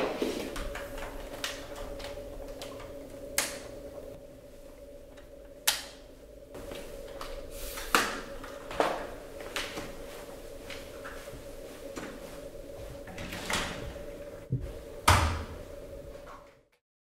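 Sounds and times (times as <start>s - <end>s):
faint steady hum: 0.0s - 16.7s.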